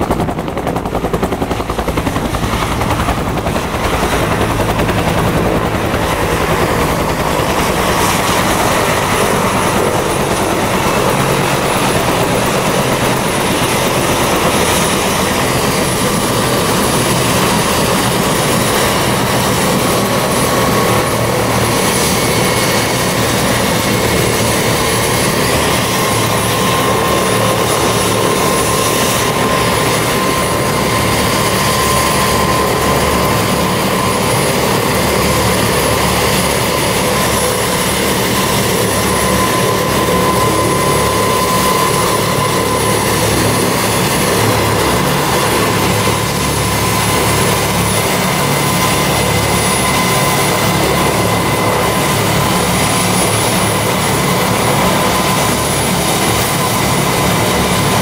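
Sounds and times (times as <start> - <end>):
helicopter rotor noise: 0.0 - 58.0
helicopter turbine whine: 0.0 - 58.0.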